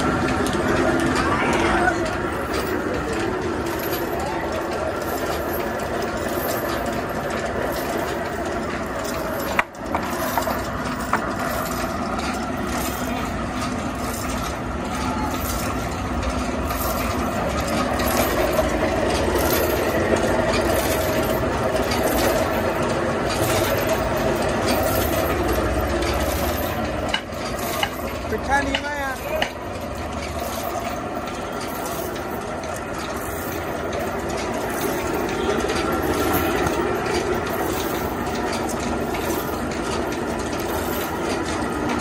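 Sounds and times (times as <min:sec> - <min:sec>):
band sawmill hum and rattle: 0:00.0 - 0:42.0.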